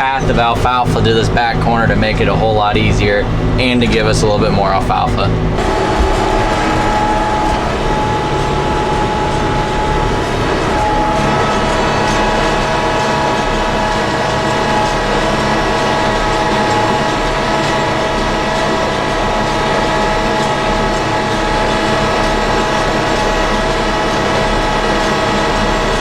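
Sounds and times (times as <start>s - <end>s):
gear whine: 0.0s - 26.0s
tractor engine droning: 0.0s - 26.0s.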